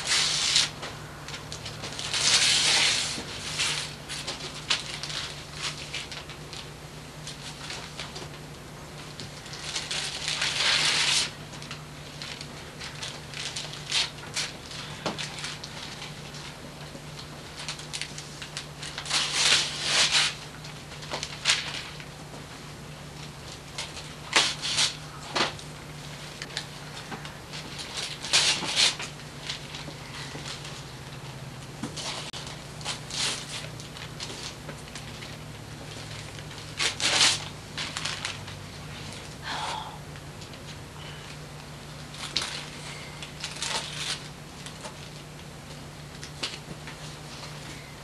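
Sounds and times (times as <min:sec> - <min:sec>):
wrapping paper tearing: 0:00.0 - 0:08.4, 0:09.0 - 0:22.2, 0:23.2 - 0:31.3, 0:32.0 - 0:39.4, 0:42.0 - 0:45.5
steady low hum: 0:00.0 - 0:48.0.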